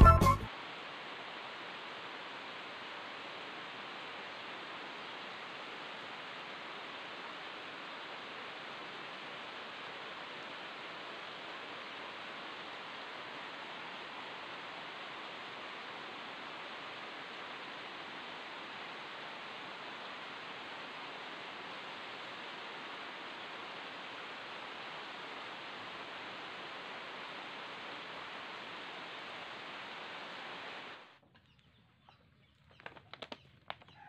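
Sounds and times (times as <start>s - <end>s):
steady hiss: 0.0s - 31.2s.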